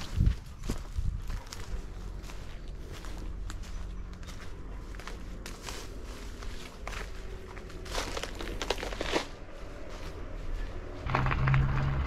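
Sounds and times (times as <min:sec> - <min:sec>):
brush rustling: 0:00.0 - 0:11.4
footsteps crunching through dry leaves: 0:00.0 - 0:12.0.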